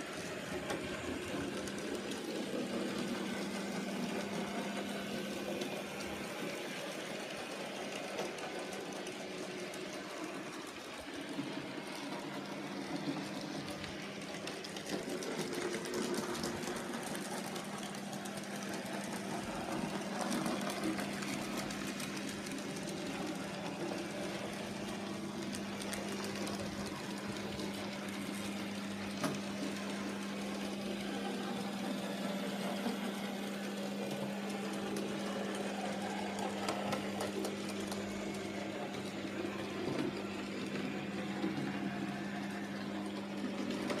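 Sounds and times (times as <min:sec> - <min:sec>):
model train motors whirring: 0:00.0 - 0:44.0.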